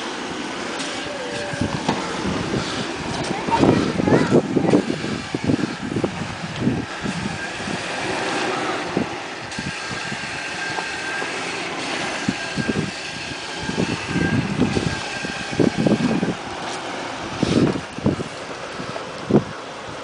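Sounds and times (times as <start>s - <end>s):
truck engine at low revs: 0.0s - 20.0s
wind gusts: 0.0s - 20.0s.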